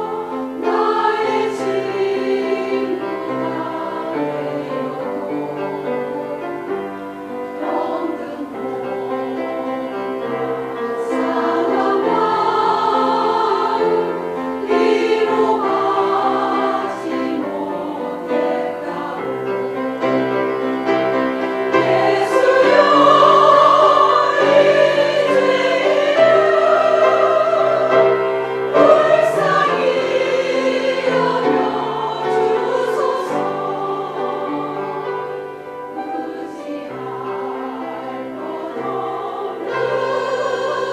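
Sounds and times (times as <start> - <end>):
choir singing held chords: 0.0 - 40.9.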